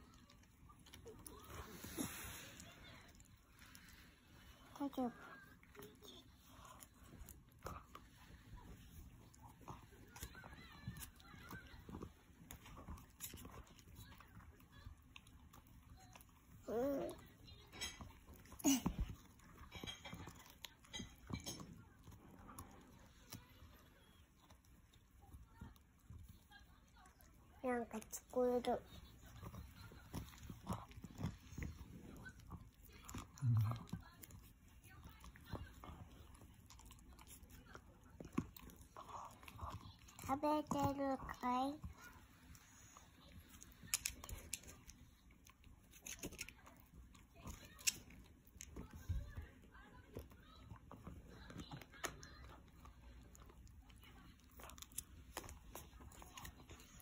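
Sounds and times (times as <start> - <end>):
dog gnawing chew bone: 0.0 - 57.0.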